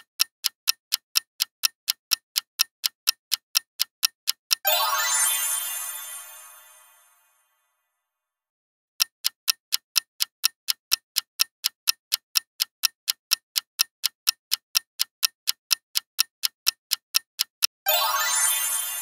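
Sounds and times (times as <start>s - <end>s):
clock ticking: 0.0s - 6.7s, 9.0s - 19.0s.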